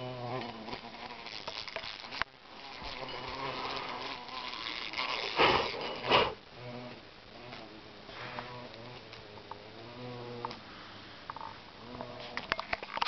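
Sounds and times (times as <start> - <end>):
flying insect buzzing: 0.0 - 10.6.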